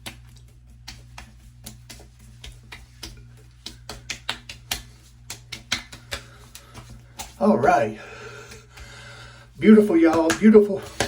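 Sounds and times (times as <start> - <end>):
hands patting face: 0.0 - 11.0
steady low hum: 0.0 - 11.0.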